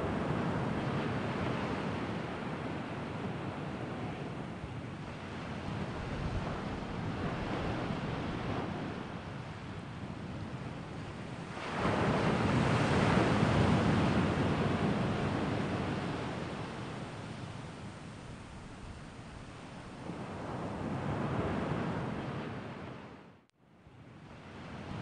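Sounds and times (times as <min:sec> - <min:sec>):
wind blowing across microphone: 0:00.0 - 0:25.0.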